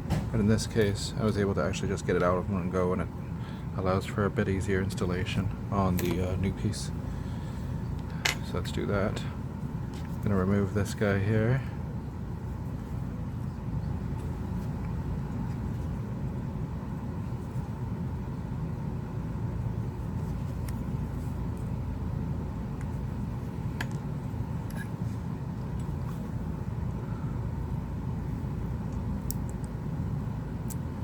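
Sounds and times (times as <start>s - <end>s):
low rumbling hum: 0.0s - 31.0s.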